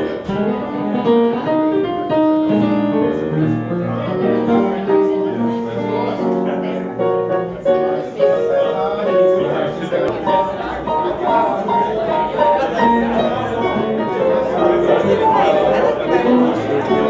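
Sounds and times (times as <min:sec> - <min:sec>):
digital piano melody: 0:00.0 - 0:17.0.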